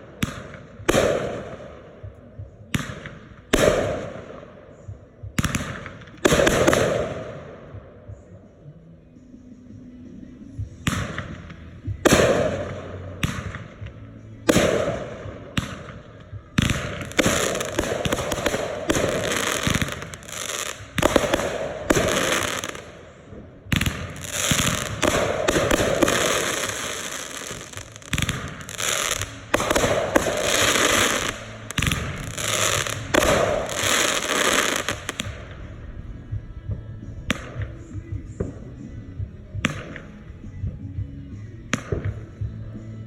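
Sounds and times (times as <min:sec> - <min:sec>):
fireworks exploding: 0:00.0 - 0:07.9, 0:10.7 - 0:40.3.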